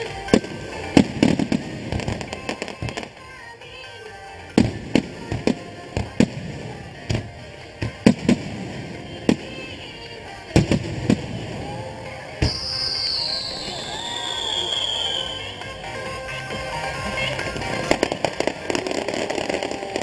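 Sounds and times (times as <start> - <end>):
fireworks bursting with sharp bangs: 0.0 - 3.5, 4.5 - 15.9, 17.0 - 20.0.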